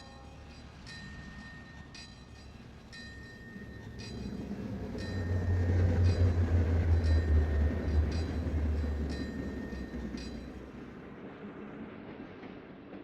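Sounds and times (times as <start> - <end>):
train passing rumble: 0.0 - 13.0.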